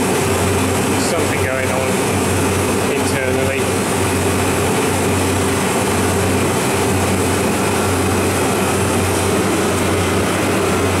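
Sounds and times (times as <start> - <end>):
compressor humming: 0.0 - 11.0
condenser fans rushing air: 0.0 - 11.0.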